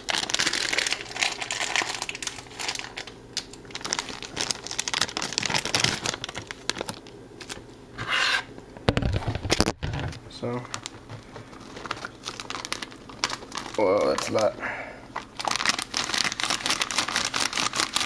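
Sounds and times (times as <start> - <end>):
plastic bag crinkling: 0.0 - 7.6, 9.1 - 14.6, 15.2 - 18.0.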